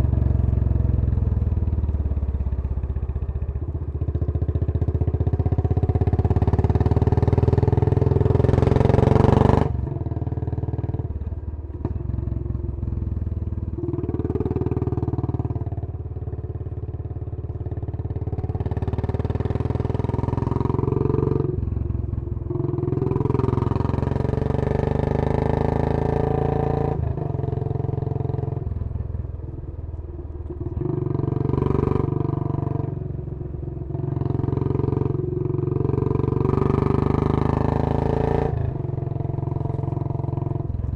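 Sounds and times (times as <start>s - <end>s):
motorcycle engine revving: 0.0s - 11.2s, 11.8s - 40.9s.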